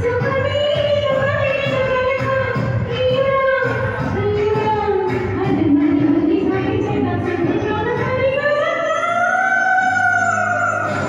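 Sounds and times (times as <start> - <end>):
amplified person singing: 0.0 - 11.0.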